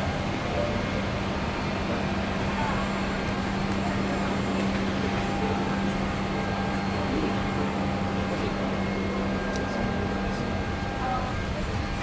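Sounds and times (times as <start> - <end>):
constant low tone: 0.0 - 12.0.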